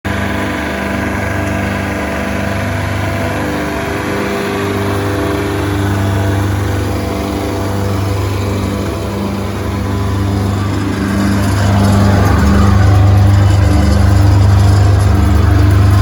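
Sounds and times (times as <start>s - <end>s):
wood chipper diesel engine running: 0.0s - 16.0s.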